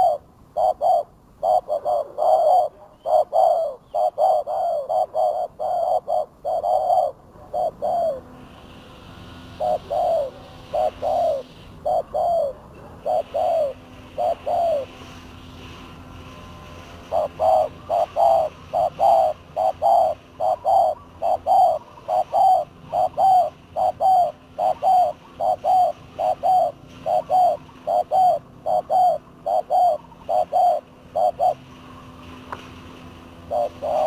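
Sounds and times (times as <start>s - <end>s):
doves cooing: 0.0s - 8.5s, 9.1s - 34.0s.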